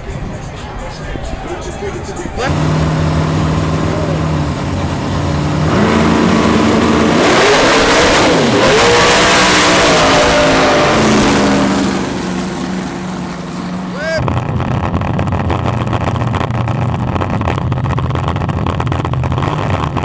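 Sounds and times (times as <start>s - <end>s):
drag car engine running: 0.0s - 20.0s.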